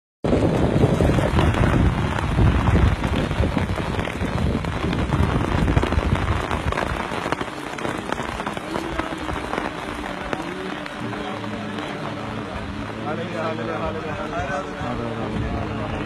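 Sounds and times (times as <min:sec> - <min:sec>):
dense low rumble: 0:00.2 - 0:16.0
heavy rain pattering: 0:00.2 - 0:16.0.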